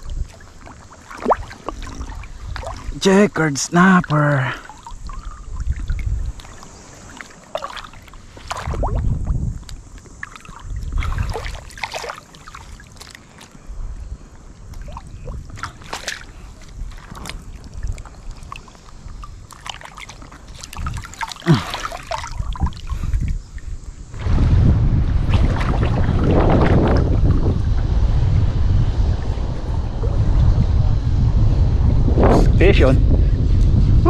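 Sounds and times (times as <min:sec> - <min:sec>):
water splashing and sloshing: 0:00.0 - 0:30.4
wind buffeting microphone: 0:00.0 - 0:34.0.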